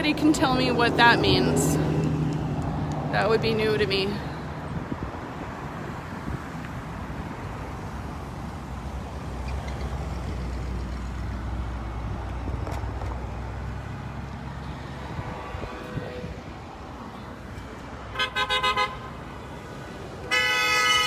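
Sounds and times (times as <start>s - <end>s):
vehicles driving slowly past: 0.0s - 21.0s.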